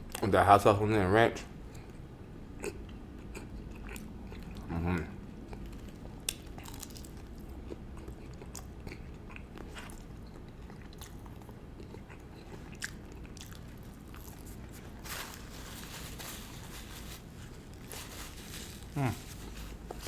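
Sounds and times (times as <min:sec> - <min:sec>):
chewing fried chicken: 0:02.6 - 0:20.0.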